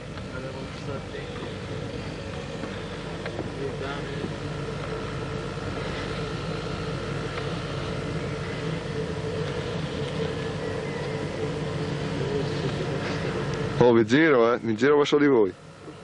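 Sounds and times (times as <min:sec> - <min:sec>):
vehicle engine running: 0:00.0 - 0:14.7.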